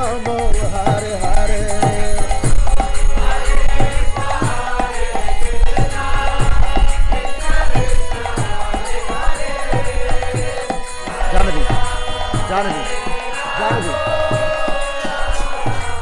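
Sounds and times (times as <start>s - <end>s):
acoustic guitar strumming chords: 0.0s - 16.0s
hand cymbals clashing: 0.0s - 16.0s.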